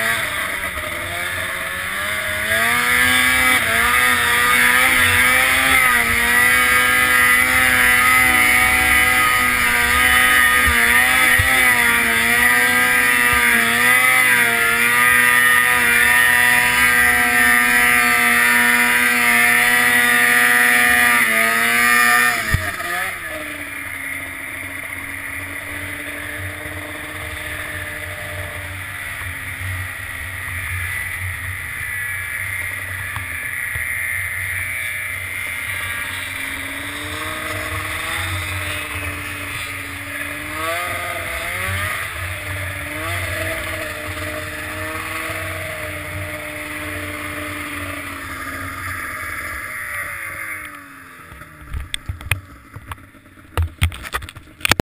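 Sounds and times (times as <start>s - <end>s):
snowmobile engine running: 0.0s - 54.8s.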